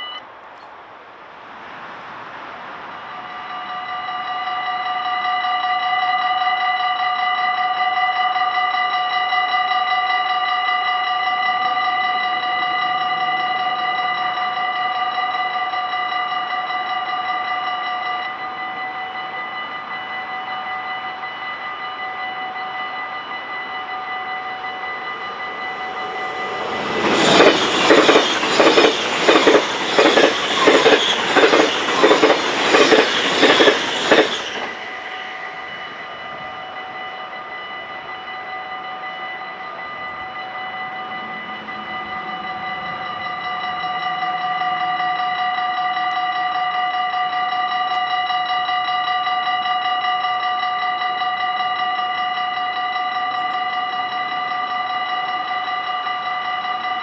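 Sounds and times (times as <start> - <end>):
passenger train rushing past: 0.0 - 57.0
level-crossing bells ringing: 3.3 - 57.0.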